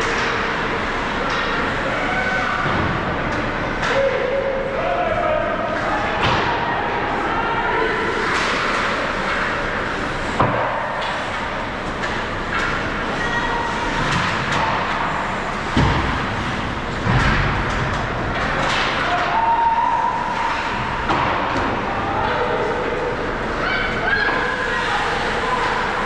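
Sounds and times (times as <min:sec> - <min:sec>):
crowd noise: 0:00.0 - 0:26.0.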